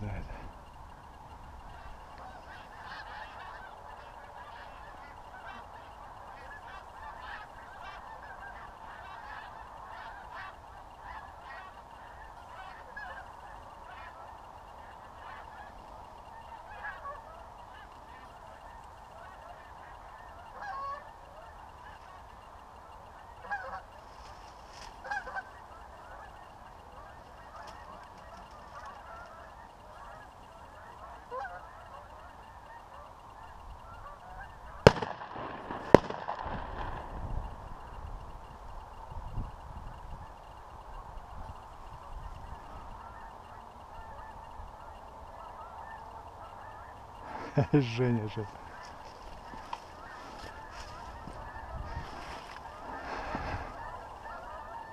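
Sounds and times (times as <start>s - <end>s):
geese honking: 0.0s - 54.9s.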